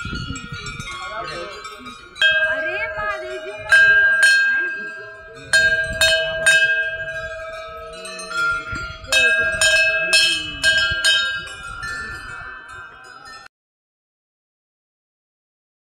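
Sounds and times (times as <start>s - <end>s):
temple bells ringing: 0.0s - 13.5s.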